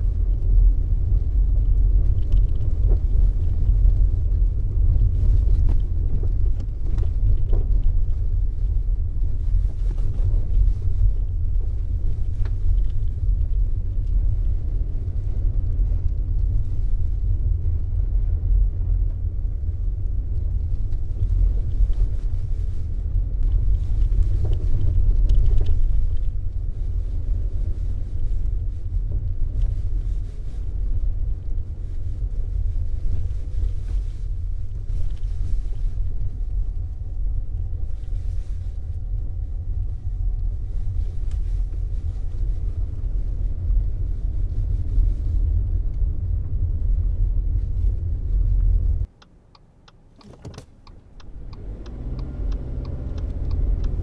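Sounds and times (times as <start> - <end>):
car cabin rumble off-road: 0.0 - 54.0.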